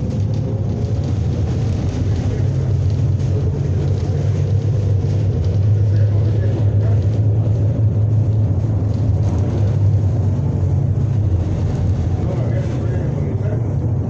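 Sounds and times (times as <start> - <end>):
train car rumbling on guideway: 0.0 - 14.0.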